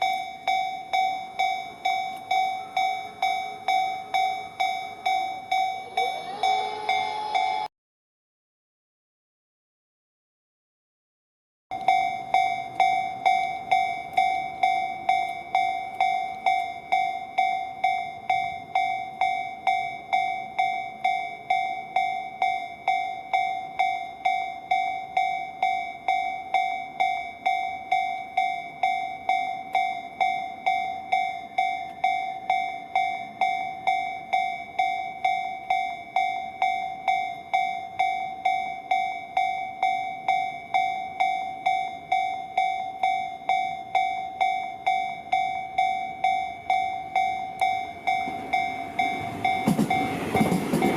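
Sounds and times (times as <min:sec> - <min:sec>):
level crossing warning bell: 0:00.0 - 0:07.7, 0:11.7 - 0:50.9.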